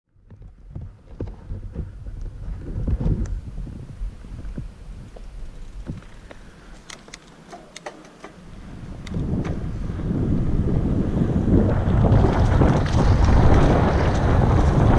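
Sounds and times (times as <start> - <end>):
wind buffeting microphone: 0.1 - 14.9
bike clicks and rattles: 0.2 - 14.9.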